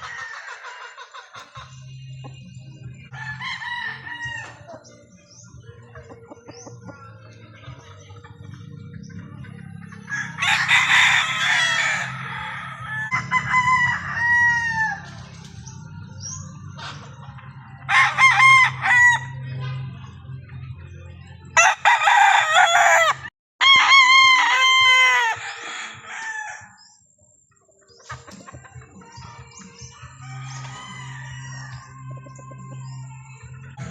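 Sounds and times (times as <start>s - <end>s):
roosters crowing: 0.0s - 7.4s, 8.7s - 19.5s, 21.6s - 27.0s, 27.9s - 33.9s.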